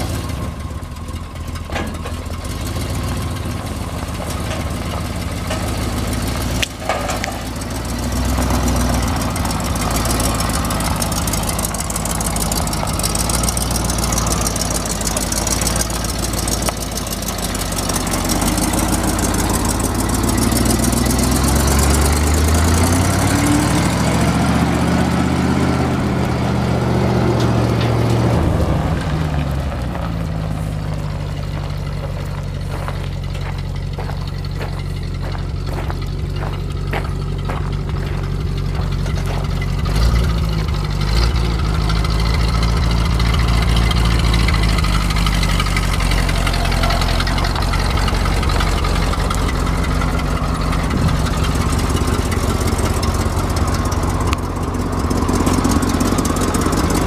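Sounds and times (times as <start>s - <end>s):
truck engine idling and revving: 0.0s - 57.0s.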